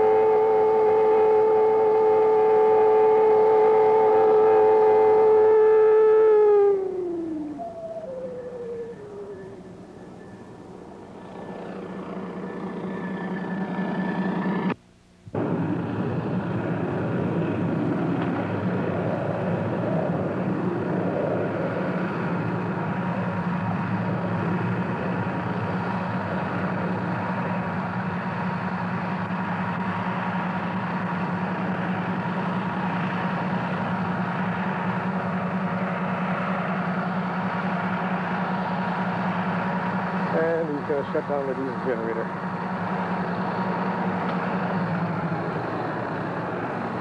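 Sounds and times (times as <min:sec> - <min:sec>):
diesel generator running: 0:00.0 - 0:47.0.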